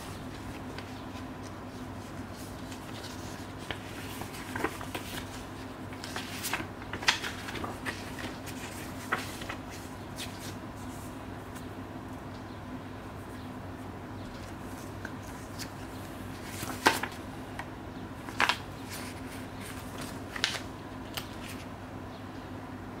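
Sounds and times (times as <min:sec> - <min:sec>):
paper rustling and crackling: 0:00.0 - 0:11.7, 0:14.3 - 0:21.7
steady low hum: 0:00.0 - 0:23.0.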